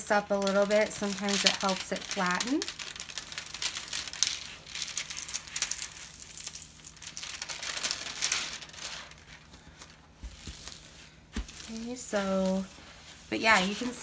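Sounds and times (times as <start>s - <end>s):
plastic film crinkling: 0.0s - 14.0s.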